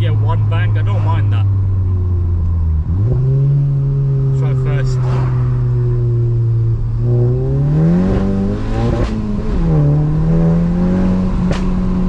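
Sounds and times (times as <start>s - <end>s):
car engine revving: 0.0s - 12.0s
exhaust crack: 0.0s - 12.0s.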